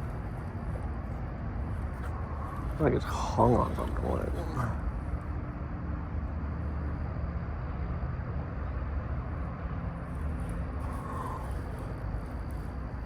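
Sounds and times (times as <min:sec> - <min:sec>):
steady low rumble with hum: 0:00.0 - 0:13.0.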